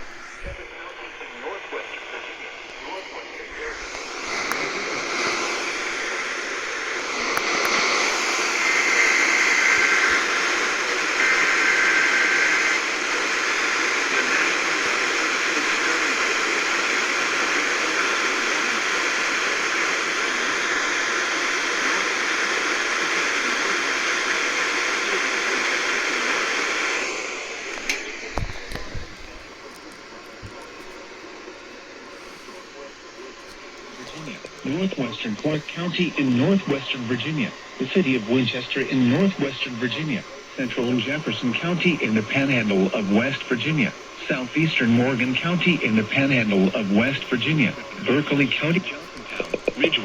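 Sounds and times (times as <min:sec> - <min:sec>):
radio static hiss: 0:00.0 - 0:50.0.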